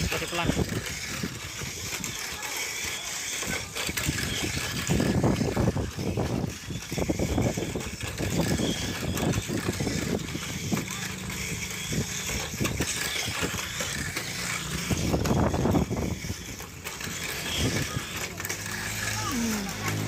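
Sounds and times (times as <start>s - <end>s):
small electric motors whirring: 0.0s - 20.0s
toy cars knocking plastic walls: 0.0s - 20.0s.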